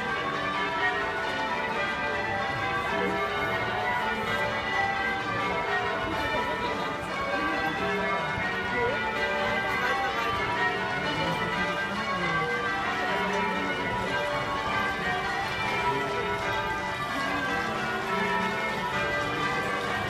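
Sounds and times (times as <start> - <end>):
church bells ringing: 0.0 - 20.0
crowd talking: 0.0 - 20.0.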